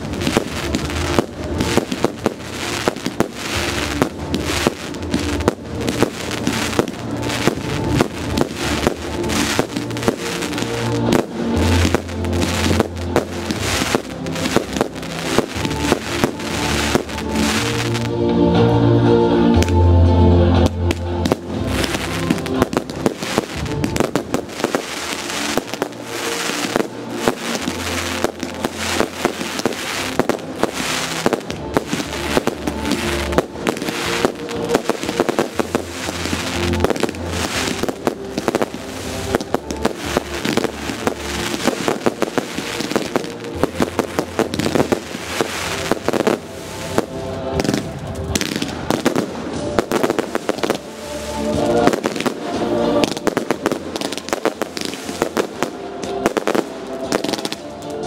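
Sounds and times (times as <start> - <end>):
music playing: 0.0 - 58.0.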